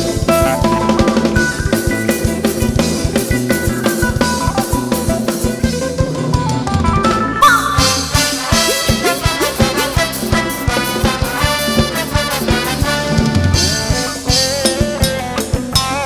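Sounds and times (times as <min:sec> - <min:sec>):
dance band over pa: 0:00.0 - 0:16.0
drum kit beat: 0:00.0 - 0:16.0.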